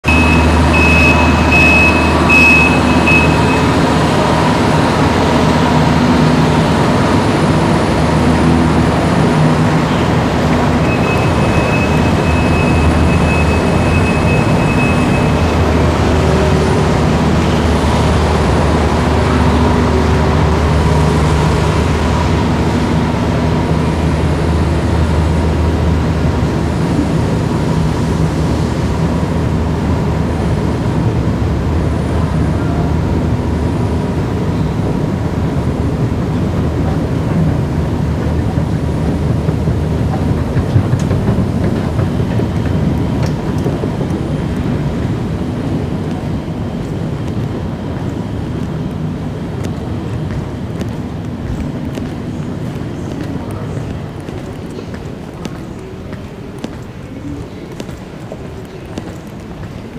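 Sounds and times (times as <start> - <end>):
escalator hum and rumble: 0.0 - 59.9.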